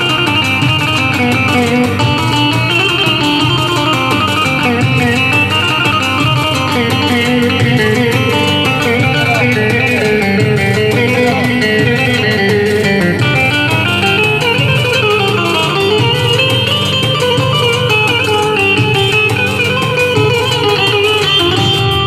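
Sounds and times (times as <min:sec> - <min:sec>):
amplified live band music: 0:00.0 - 0:22.0.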